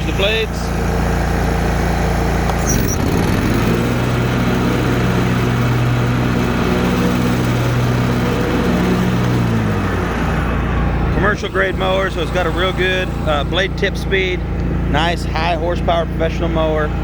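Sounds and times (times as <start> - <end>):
mower engine running: 0.0 - 17.0.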